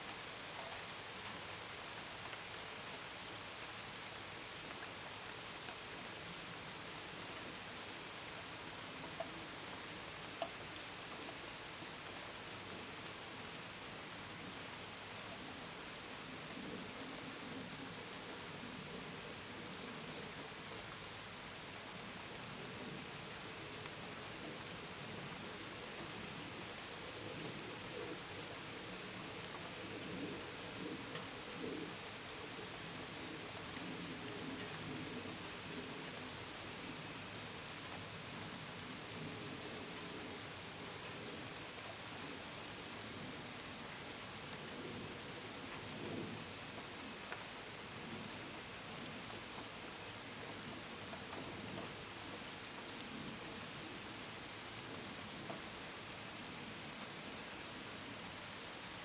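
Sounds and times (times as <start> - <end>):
gentle rain falling: 0.0 - 59.0
crickets chirping: 0.2 - 59.0.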